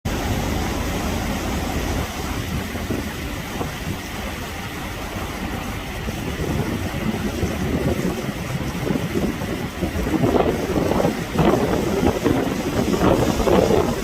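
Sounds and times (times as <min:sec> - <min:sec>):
sea waves breaking: 0:00.0 - 0:14.0.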